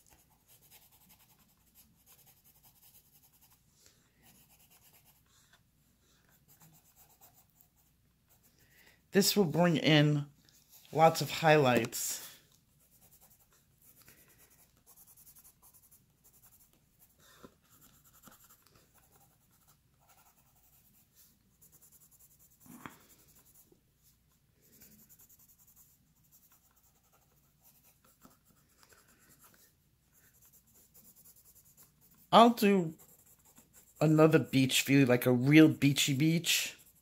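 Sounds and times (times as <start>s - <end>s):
pencil scratching on paper: 0.0s - 3.6s, 4.2s - 5.6s, 6.2s - 8.6s, 10.7s - 37.0s.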